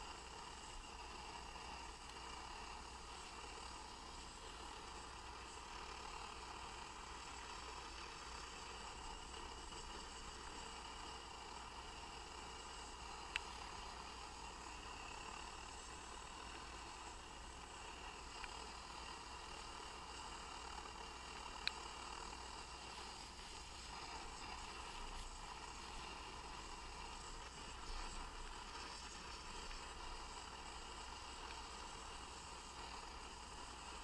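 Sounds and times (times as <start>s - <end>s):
camping stove burner hissing: 0.0s - 34.0s.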